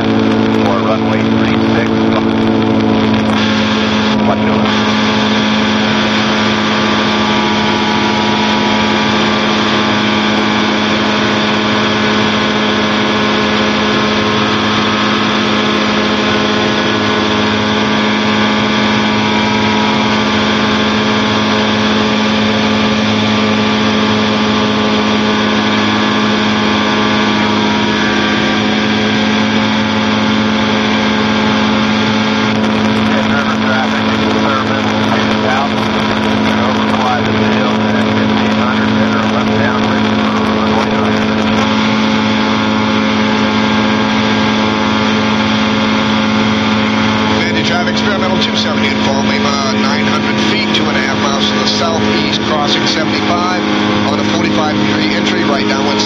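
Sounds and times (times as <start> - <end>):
aircraft engine droning: 0.0 - 56.0.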